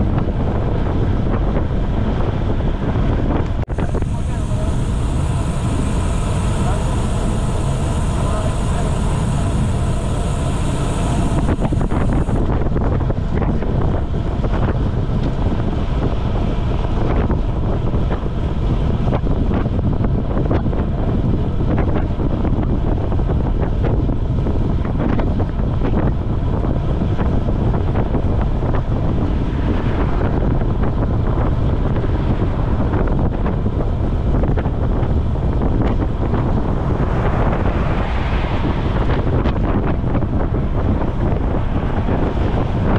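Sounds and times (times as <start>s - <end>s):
wind rushing over microphone: 0.0s - 42.9s.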